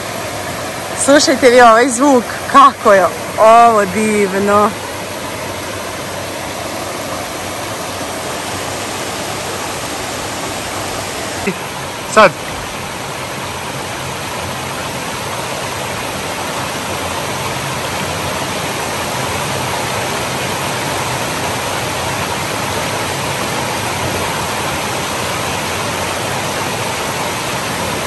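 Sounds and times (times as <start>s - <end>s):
rush of flowing water: 0.0s - 28.0s.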